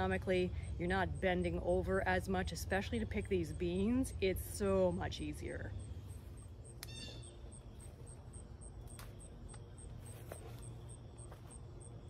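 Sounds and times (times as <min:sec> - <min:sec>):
insect chirping: 0:00.0 - 0:12.0
low steady rumble: 0:00.0 - 0:12.0.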